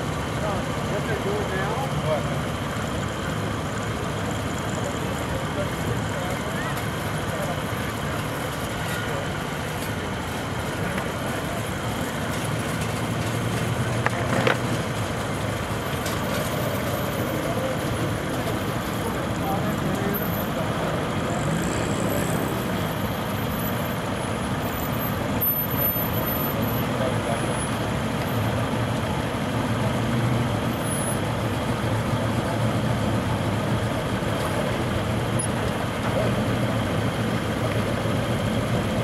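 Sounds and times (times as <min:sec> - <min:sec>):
cars rolling slowly past: 0:00.0 - 0:39.0.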